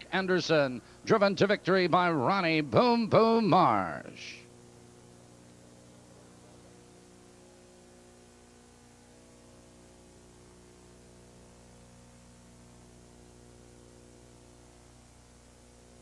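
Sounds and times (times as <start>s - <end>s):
constant hiss: 0.0s - 16.0s
electrical hum: 0.0s - 16.0s.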